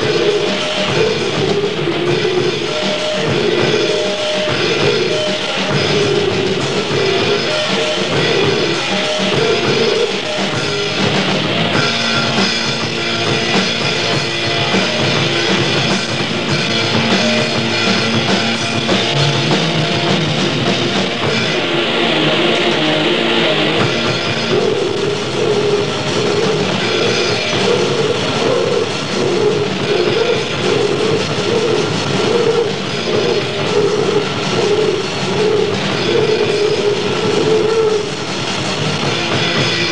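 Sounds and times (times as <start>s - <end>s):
distorted guitars: 0.0s - 39.9s
drum kit: 0.0s - 39.9s.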